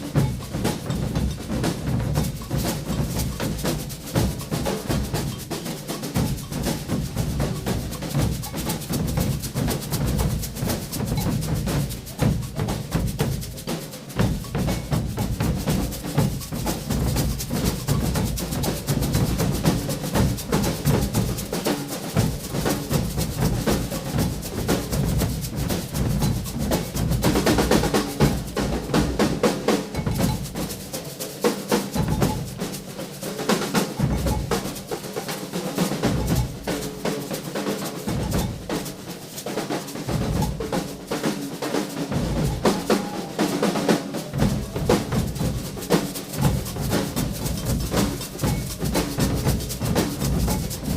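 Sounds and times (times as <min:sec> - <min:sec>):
crisp snare drums: 0:00.0 - 0:50.9.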